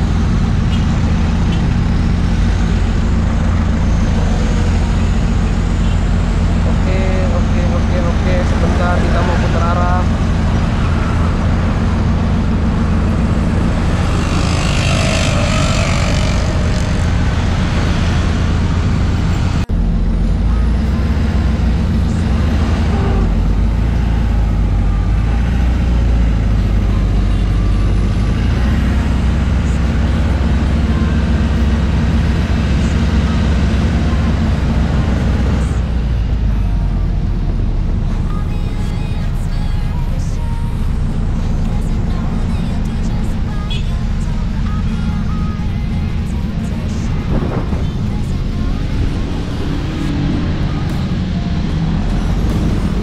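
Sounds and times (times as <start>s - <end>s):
deep engine drone: 0.0s - 53.0s
road and traffic noise: 0.0s - 53.0s
truck engine running: 0.0s - 53.0s.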